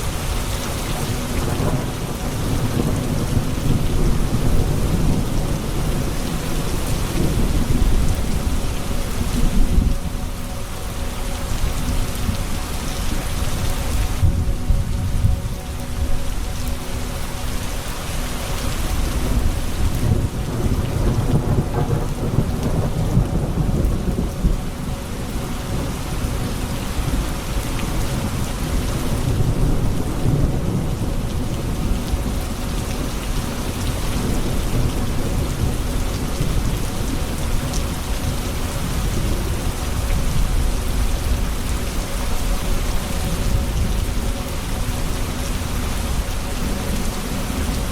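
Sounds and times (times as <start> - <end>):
low rolling thunder: 0.0 - 10.7, 18.8 - 47.9
steady rain: 0.0 - 47.9.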